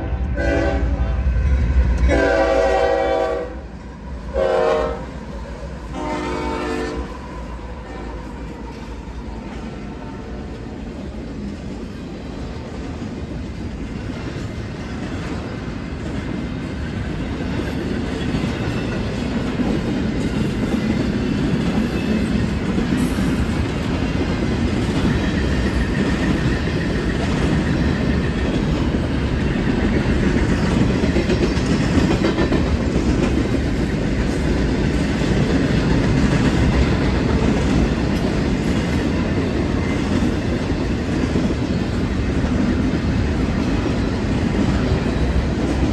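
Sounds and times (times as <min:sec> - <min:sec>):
freight train rumble: 0:00.0 - 0:45.9.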